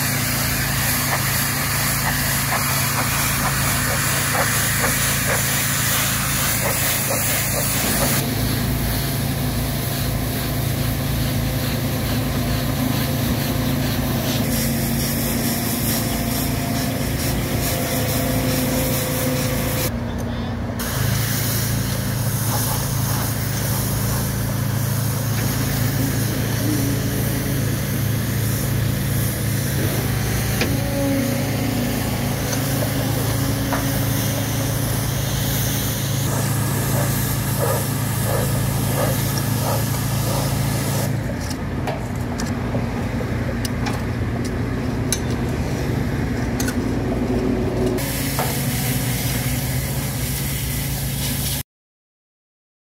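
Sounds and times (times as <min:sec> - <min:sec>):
high-pressure water spray hiss: 0:00.0 - 0:19.9, 0:20.8 - 0:41.3, 0:48.0 - 0:51.6
pressure washer engine drone: 0:00.0 - 0:51.6.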